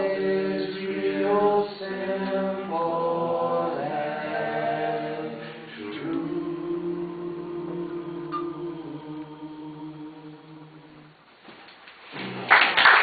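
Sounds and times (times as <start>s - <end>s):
a cappella group singing in harmony: 0.0s - 11.2s.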